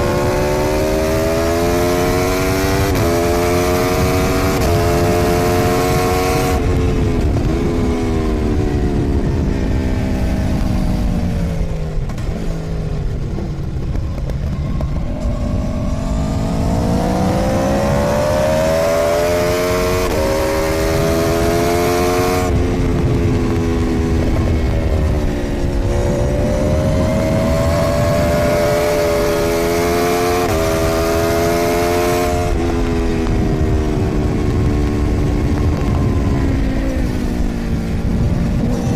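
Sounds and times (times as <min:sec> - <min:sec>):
heavy wind rush: 0:00.0 - 0:38.9
motorcycle engine revving: 0:00.0 - 0:38.9.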